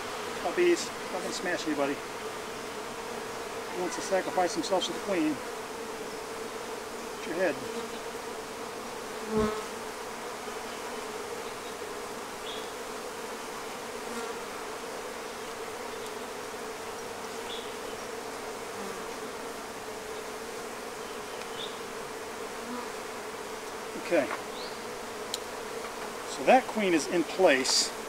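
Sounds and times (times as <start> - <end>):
bees humming: 0.0 - 28.0.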